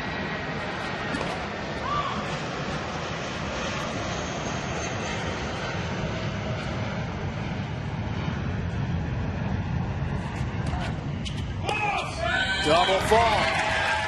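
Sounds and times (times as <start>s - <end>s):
airliner rumbling overhead: 0.0s - 14.0s
open-air ambience: 0.0s - 14.0s.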